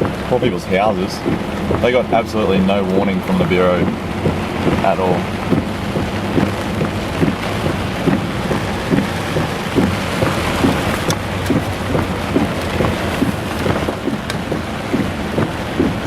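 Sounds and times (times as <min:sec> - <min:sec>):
heavy rain hiss: 0:00.0 - 0:16.0
low engine hum: 0:00.0 - 0:16.0
regular low thump: 0:00.0 - 0:16.0.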